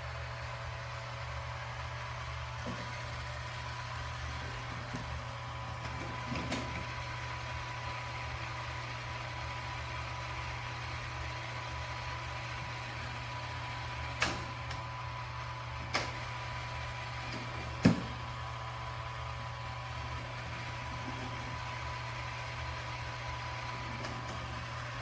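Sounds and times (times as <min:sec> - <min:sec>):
robot vacuum motor hum: 0:00.0 - 0:25.0.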